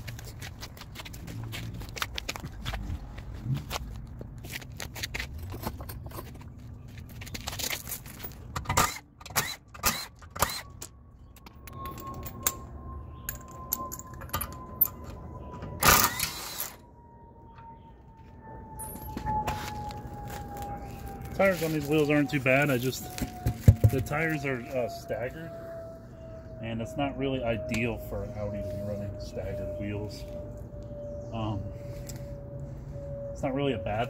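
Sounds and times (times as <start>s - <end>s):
faint whine: 5.6s - 34.0s.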